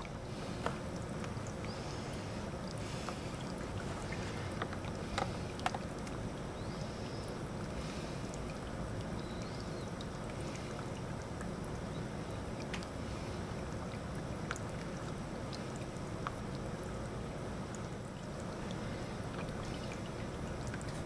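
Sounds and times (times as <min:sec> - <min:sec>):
pump humming with water noise: 0:00.0 - 0:21.0.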